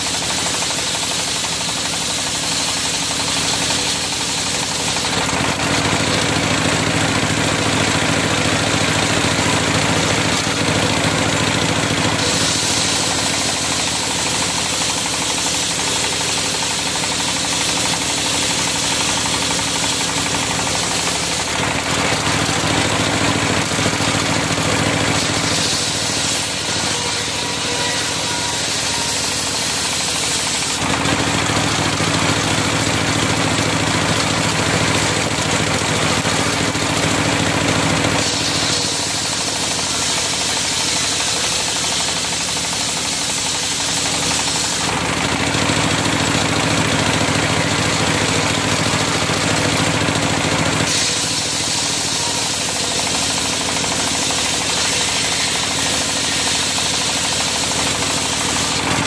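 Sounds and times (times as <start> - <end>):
drive engine running: 0.0 - 59.0
circular saw blade ripping log: 9.4 - 32.7, 33.4 - 59.0.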